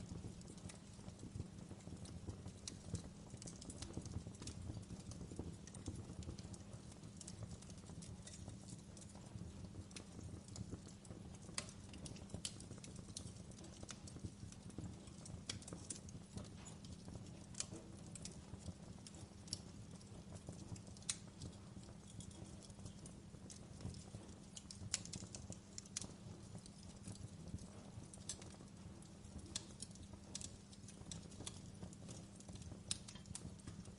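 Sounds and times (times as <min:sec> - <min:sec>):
low rumble of burning fire: 0:00.0 - 0:33.9
wood fire popping and snapping: 0:00.0 - 0:33.9.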